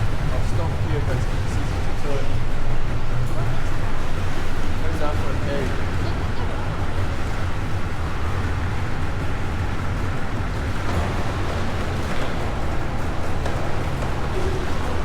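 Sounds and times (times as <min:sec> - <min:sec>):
motorboat engine drone: 0:00.0 - 0:15.0
rushing water: 0:00.0 - 0:15.0.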